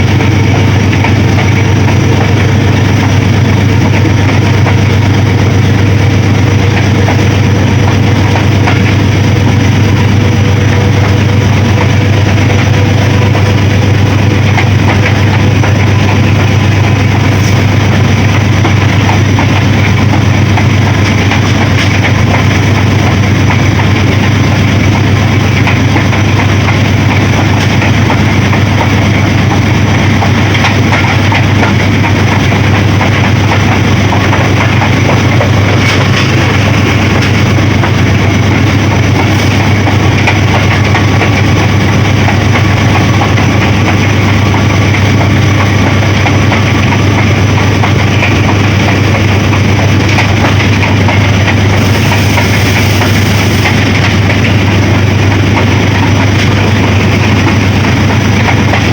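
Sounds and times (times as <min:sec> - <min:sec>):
diesel locomotive drone: 0:00.0 - 0:58.9
rattling rail noise: 0:00.0 - 0:58.9.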